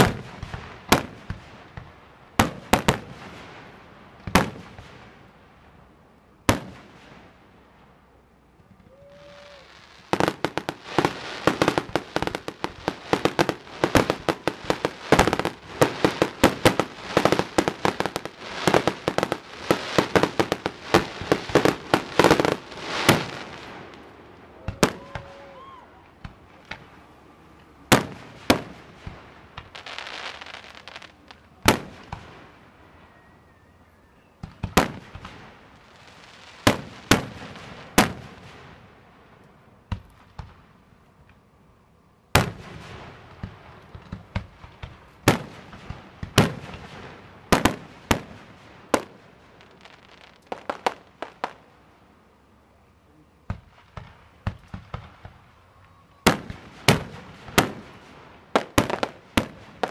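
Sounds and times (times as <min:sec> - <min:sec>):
firework bangs: 0:00.0 - 0:05.2, 0:06.4 - 0:07.4, 0:08.7 - 0:27.1, 0:27.8 - 0:32.8, 0:34.4 - 0:40.7, 0:42.3 - 0:51.7, 0:53.4 - 0:55.6, 0:56.2 - 0:59.9
firework crackle: 0:00.0 - 0:33.3, 0:34.4 - 0:41.0, 0:42.3 - 0:52.0, 0:53.5 - 0:59.9.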